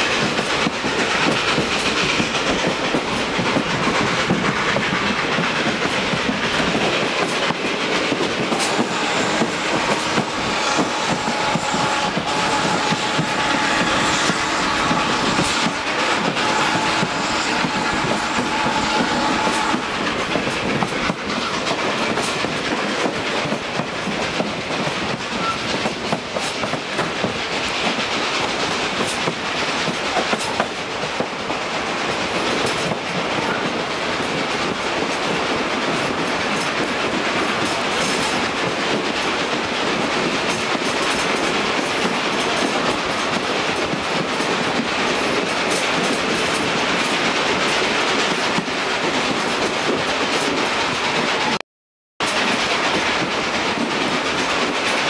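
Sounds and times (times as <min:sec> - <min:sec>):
train cars rumbling and rattling: 0:00.0 - 0:51.6, 0:52.2 - 0:55.0.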